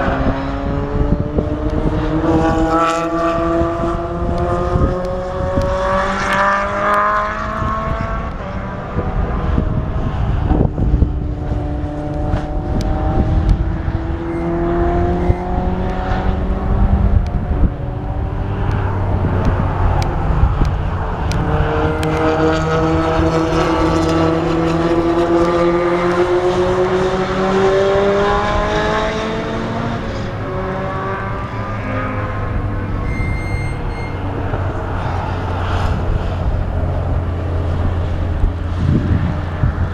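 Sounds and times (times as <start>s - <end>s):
race car engines accelerating: 0.0s - 39.9s.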